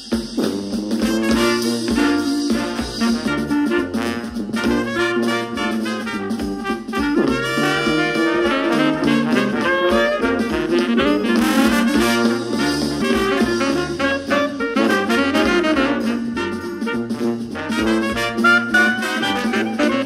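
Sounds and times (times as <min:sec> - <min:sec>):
jazzy brass music: 0:00.0 - 0:20.0.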